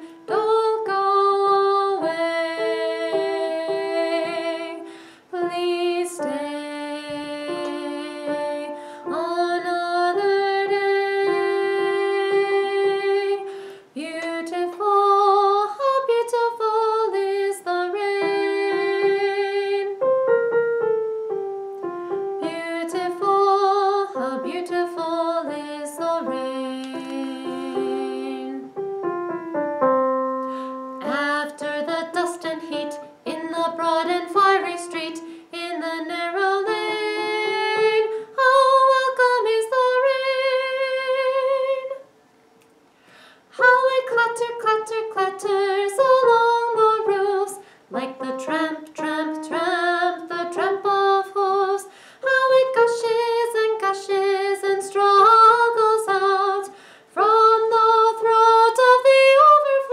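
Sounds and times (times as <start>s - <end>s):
woman singing with vibrato: 0.0s - 20.0s, 22.4s - 28.8s, 31.0s - 42.1s, 43.5s - 59.9s
piano accompaniment: 0.0s - 41.4s, 43.6s - 56.6s.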